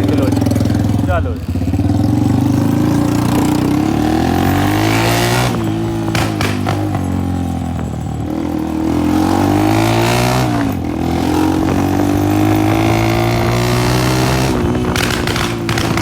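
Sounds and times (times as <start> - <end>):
loud motorcycle engine: 0.0 - 16.0.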